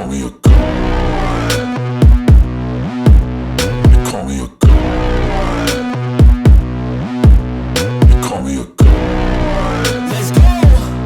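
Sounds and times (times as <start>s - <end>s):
electronic dance music: 0.5s - 11.0s.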